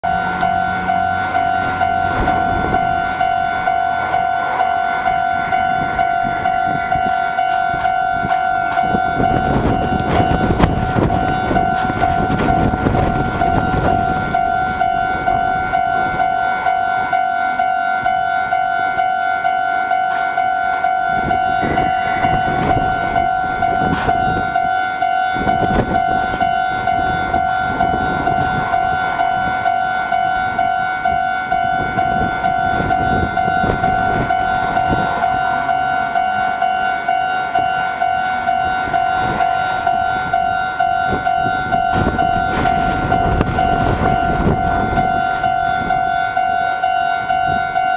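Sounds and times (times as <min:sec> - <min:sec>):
level crossing bell dinging: 0:00.0 - 0:47.9.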